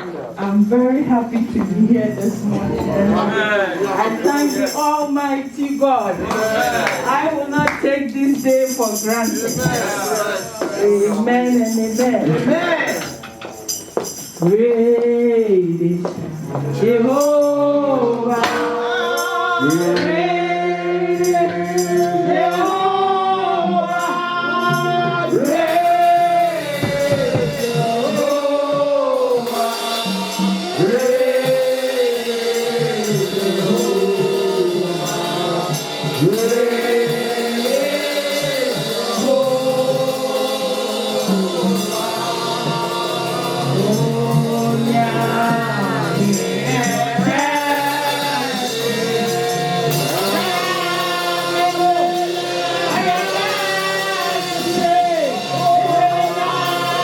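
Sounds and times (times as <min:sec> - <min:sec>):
congregation singing gospel song: 0:00.0 - 0:57.0
instrumental accompaniment: 0:00.0 - 0:57.0.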